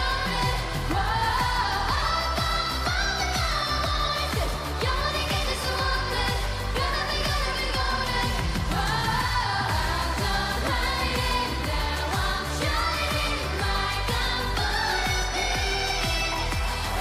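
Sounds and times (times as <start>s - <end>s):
beat and bass: 0.0s - 17.0s
women singing pop song: 0.0s - 17.0s.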